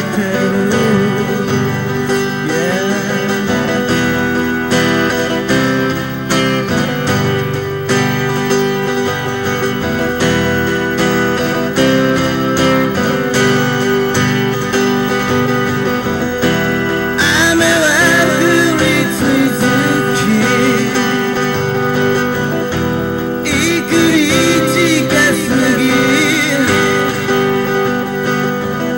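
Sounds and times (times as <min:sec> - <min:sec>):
acoustic guitar strumming: 0:00.0 - 0:28.9
wavering lead melody: 0:00.0 - 0:28.9.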